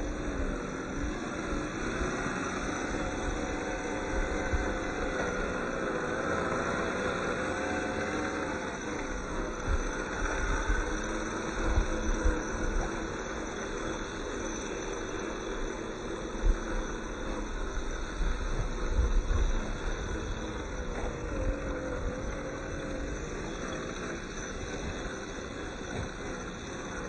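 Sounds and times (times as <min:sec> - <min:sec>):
electric motor and gears whining: 0:00.0 - 0:27.0.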